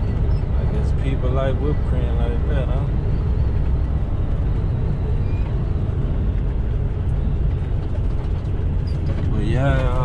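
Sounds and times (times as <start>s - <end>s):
road and tyre noise: 0.0s - 10.0s
truck engine drone: 0.0s - 10.0s.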